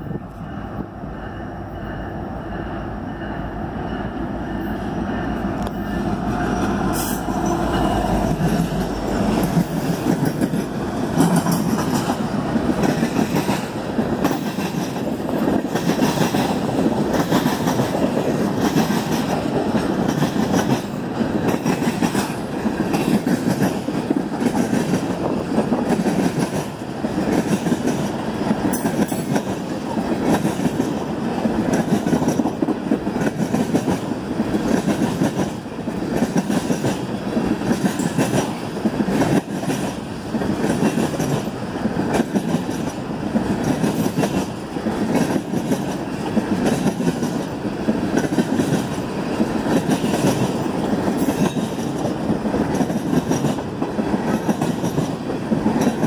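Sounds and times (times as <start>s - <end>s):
diesel locomotives: 0.0s - 56.0s
freight train rumbling: 0.0s - 56.0s
train wheels clacking on rails: 0.0s - 56.0s.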